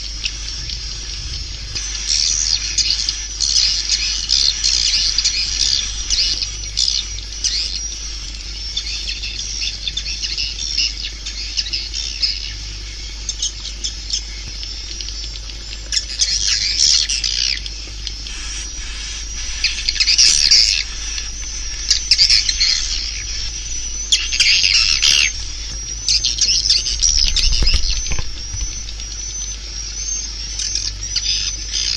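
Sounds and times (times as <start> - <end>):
swiftlets chirping and twittering: 0.0 - 31.9.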